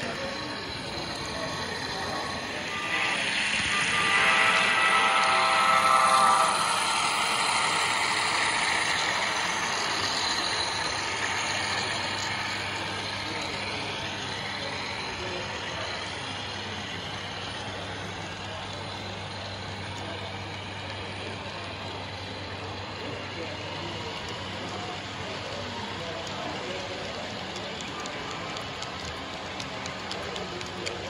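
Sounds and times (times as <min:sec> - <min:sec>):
model train wheels on track: 0:00.0 - 0:31.0.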